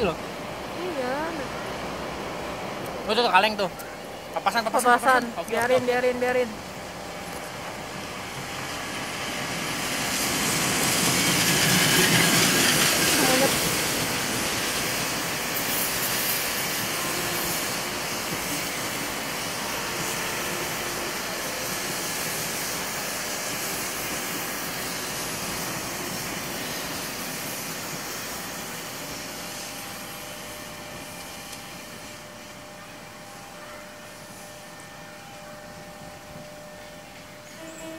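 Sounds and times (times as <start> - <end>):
electric train passing: 0.0 - 37.9.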